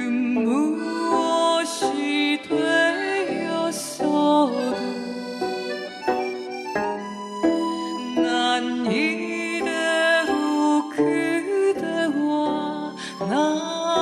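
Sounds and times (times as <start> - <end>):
plucked zither notes bending in pitch: 0.0 - 14.0.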